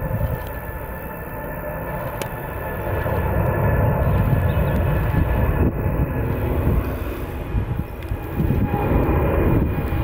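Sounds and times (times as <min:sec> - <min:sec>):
faint steady tones: 0:00.0 - 0:10.0
jet engine rumble: 0:00.0 - 0:10.0.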